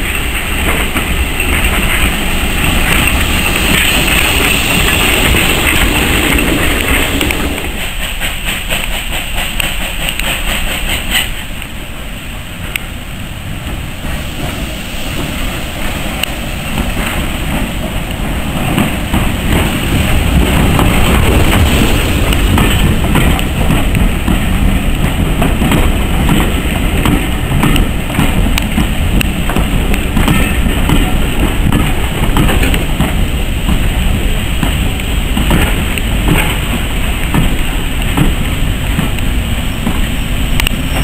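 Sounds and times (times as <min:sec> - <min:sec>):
wheels clicking over rail joints: 0:00.0 - 0:11.7, 0:15.2 - 0:41.0
passenger train passing: 0:00.0 - 0:41.0.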